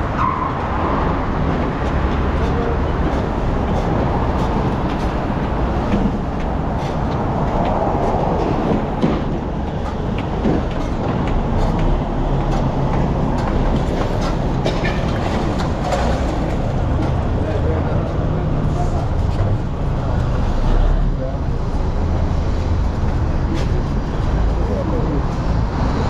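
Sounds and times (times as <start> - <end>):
rail vehicle rumble: 0.0 - 26.0.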